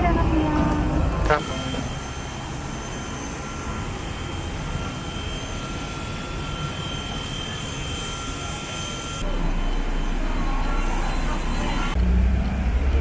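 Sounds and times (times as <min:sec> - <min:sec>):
jet cabin engine and airflow rush: 0:00.0 - 0:13.0
faint whining tones: 0:00.1 - 0:13.0.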